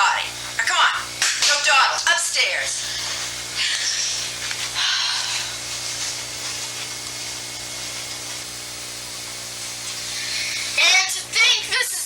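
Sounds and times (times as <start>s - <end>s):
low electrical hum: 0.0s - 12.0s
steady hiss: 0.0s - 12.0s.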